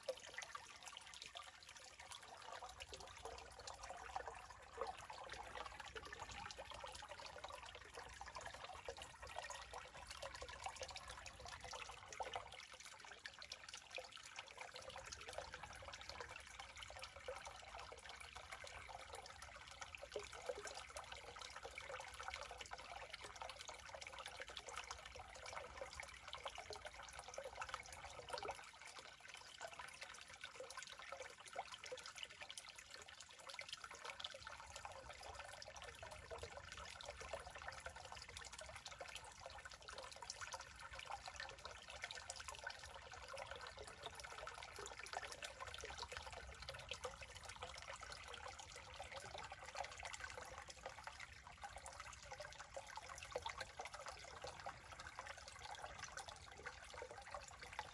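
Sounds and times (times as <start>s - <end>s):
stream trickling: 0.0s - 57.9s.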